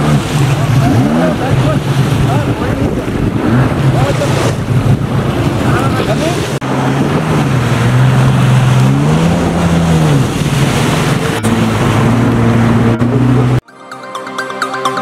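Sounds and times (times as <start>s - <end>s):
jet ski engine running: 0.0s - 13.6s
water rushing and spray: 0.0s - 13.6s.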